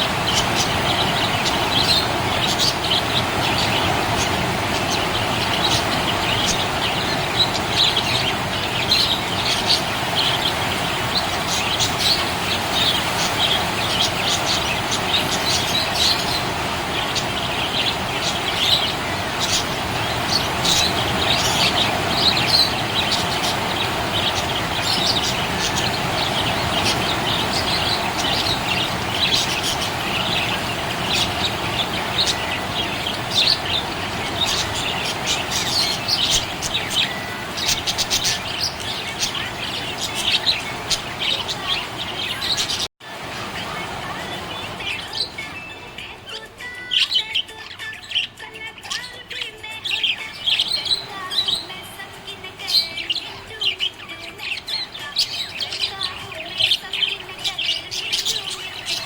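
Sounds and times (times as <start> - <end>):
steady background noise: 0.0 - 59.0.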